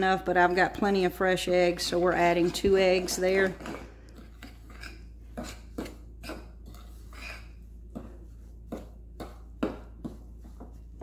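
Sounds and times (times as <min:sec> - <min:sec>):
fork stirring thick batter: 0:00.0 - 0:11.0.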